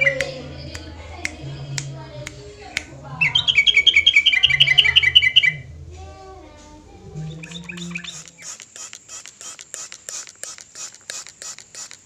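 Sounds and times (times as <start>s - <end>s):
bird chattering song: 0.0s - 12.0s
faint bird calls: 0.0s - 12.0s
scratchy clicks: 0.0s - 12.0s.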